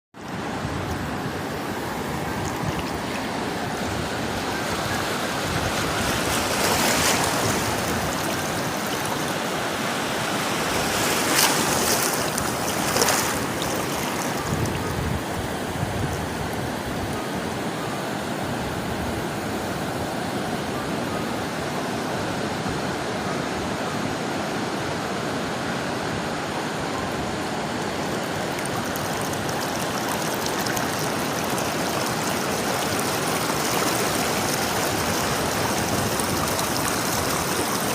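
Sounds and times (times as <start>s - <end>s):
sea waves washing onto shore: 0.2s - 20.0s, 26.2s - 37.9s.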